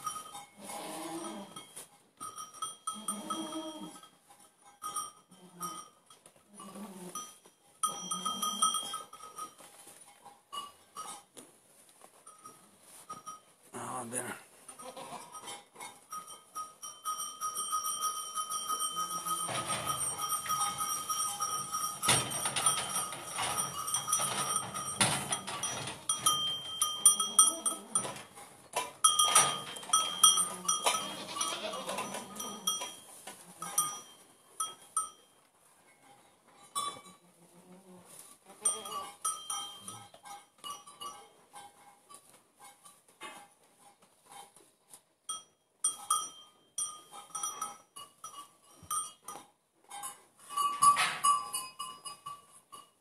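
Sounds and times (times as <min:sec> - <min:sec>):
goat bell ringing: 0:00.0 - 0:37.4, 0:38.4 - 0:53.0.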